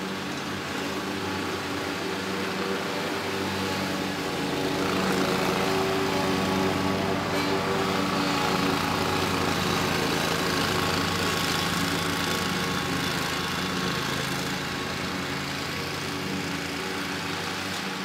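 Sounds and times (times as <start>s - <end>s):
riding mower engine running: 0.0s - 18.0s.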